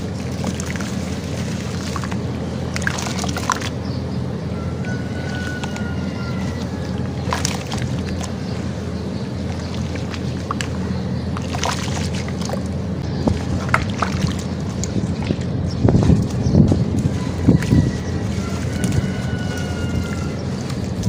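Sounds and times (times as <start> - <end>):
wet slurry splashing and squishing: 0.0 - 4.0, 4.8 - 21.0
steady low rumble: 0.0 - 21.0.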